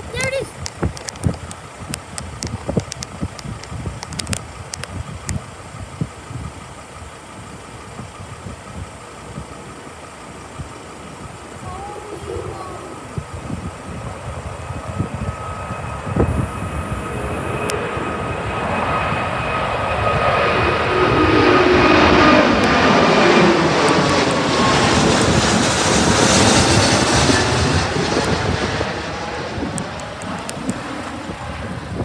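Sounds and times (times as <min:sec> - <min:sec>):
jet airliner passing: 0:00.0 - 0:32.0.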